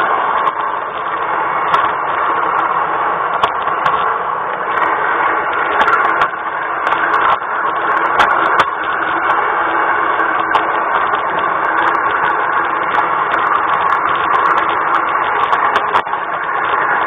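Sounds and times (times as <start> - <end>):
model train rattling on track: 0.0 - 17.0.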